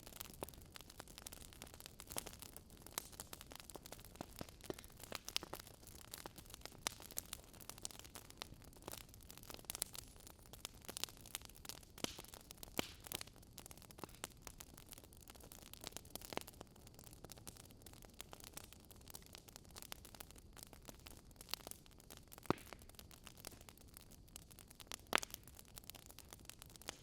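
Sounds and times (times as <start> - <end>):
logs crackling and popping: 0.0 - 27.0.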